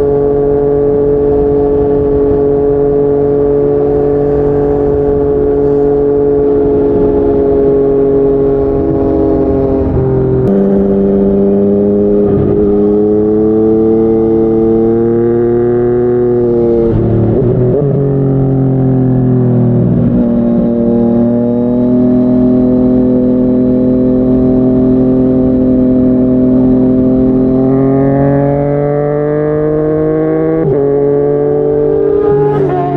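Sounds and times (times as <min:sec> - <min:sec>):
motorcycle engine at speed: 0:00.0 - 0:32.9.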